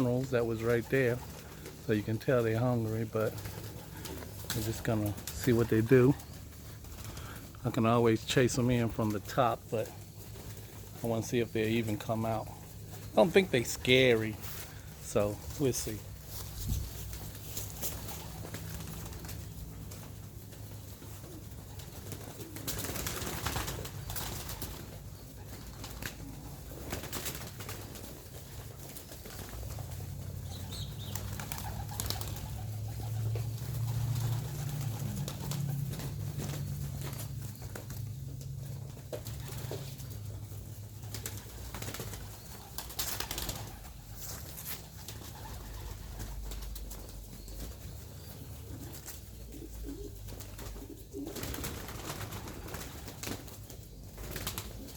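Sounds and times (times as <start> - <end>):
pigeons cooing: 0.0 - 54.9
wings flapping: 0.0 - 54.9.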